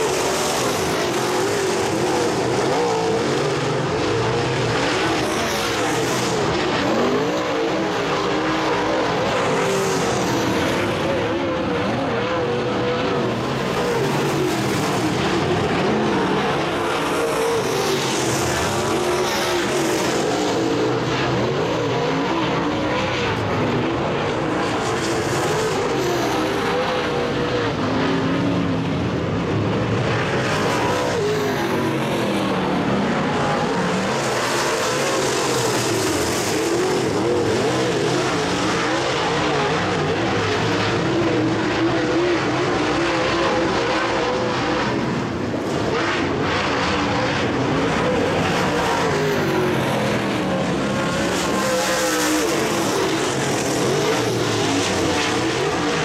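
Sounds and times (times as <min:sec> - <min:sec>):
race car engines lapping: 0:00.0 - 0:56.0.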